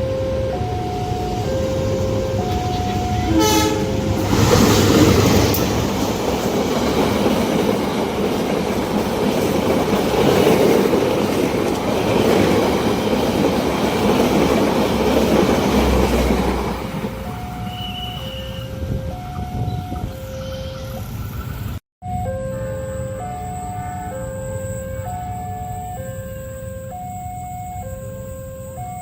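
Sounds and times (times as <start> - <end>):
two-tone crossing warning alarm: 0.0 - 21.3, 22.0 - 29.0
passenger train passing on rails: 0.0 - 29.0.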